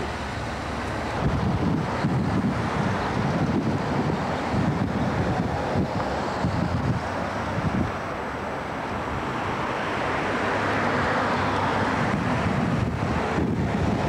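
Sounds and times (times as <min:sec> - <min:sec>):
wind on the microphone: 0:00.0 - 0:08.3, 0:09.0 - 0:14.0.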